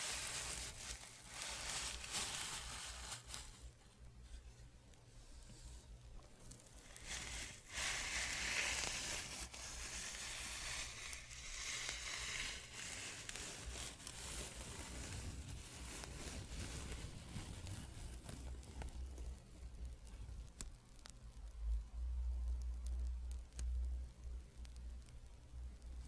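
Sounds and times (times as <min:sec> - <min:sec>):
soft scratching: 0:00.0 - 0:21.5.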